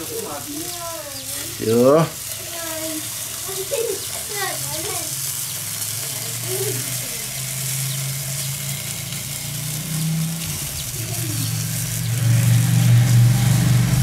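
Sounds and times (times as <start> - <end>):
fat sizzling on hot charcoal: 0.0 - 14.0.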